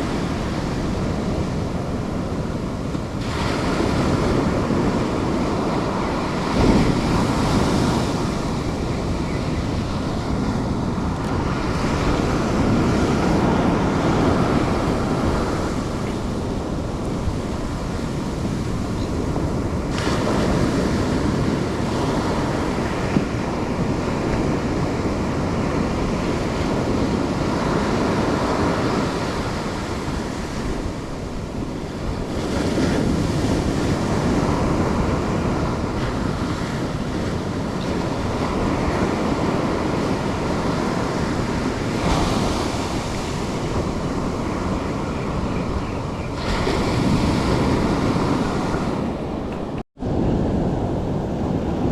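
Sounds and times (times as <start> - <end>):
surf breaking on shore: 0.0 - 51.9
wind on microphone: 0.0 - 51.9.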